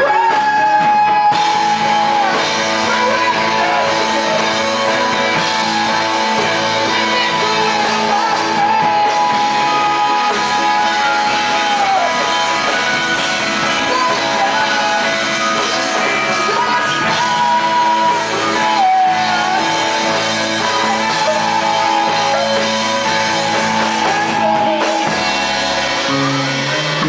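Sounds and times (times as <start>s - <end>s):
guitar: 0.0s - 27.0s
person singing: 0.0s - 27.0s
rock band playing: 0.0s - 27.0s.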